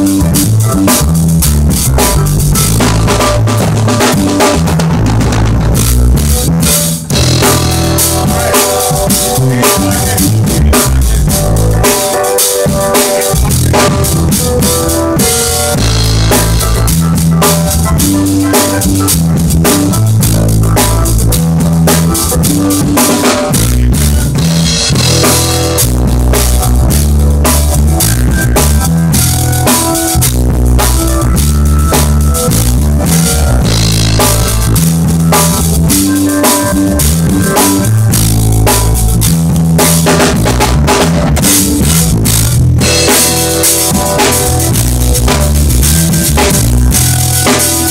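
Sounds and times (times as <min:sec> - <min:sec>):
bass line: 0:00.0 - 0:47.9
drum kit playing a groove: 0:00.0 - 0:47.9
guitar: 0:00.0 - 0:47.9.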